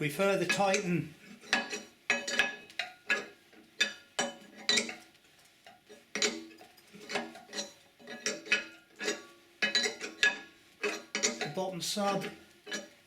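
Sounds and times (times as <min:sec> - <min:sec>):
spanner clinking on steel: 0:00.5 - 0:05.0, 0:06.1 - 0:13.0.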